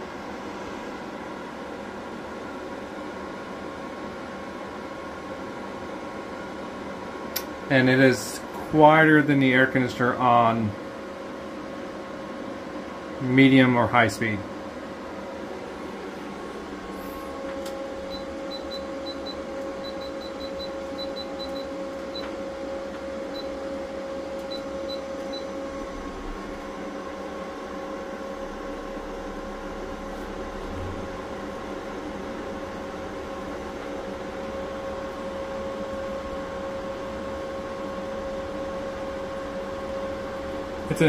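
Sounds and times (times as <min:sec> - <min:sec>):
inverter hum and cooling fans: 0:00.0 - 0:41.0.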